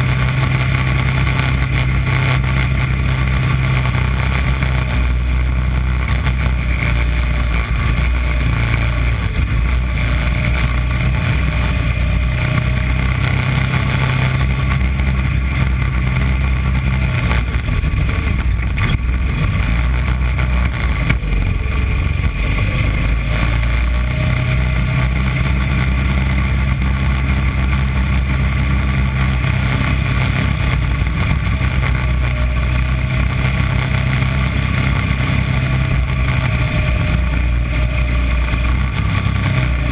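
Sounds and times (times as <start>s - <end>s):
kart engine racing: 0.0s - 39.9s
wind and road noise: 0.0s - 39.9s.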